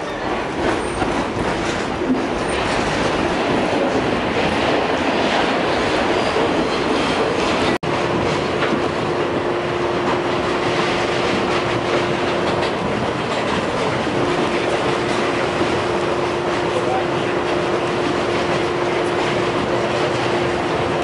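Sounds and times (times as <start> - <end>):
subway car rumbling on tracks: 0.0 - 21.0.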